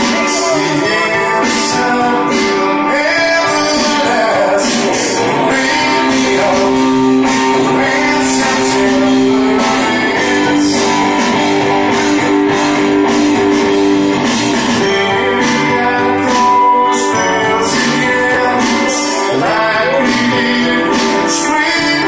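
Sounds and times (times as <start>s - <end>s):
man singing into a microphone: 0.0s - 11.5s, 14.8s - 22.0s
electric guitar: 0.0s - 22.0s.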